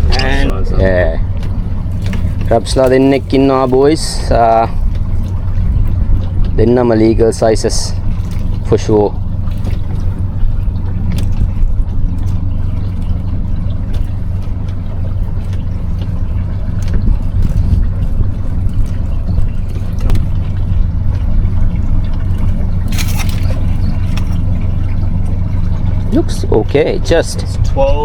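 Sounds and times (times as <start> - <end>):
boat engine idling: 0.0 - 28.0.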